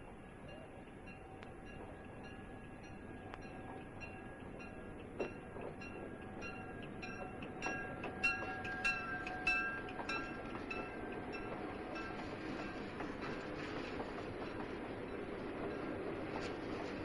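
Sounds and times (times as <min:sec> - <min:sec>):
approaching train rumble: 0:00.0 - 0:17.0
railroad crossing bell dinging: 0:00.0 - 0:17.0.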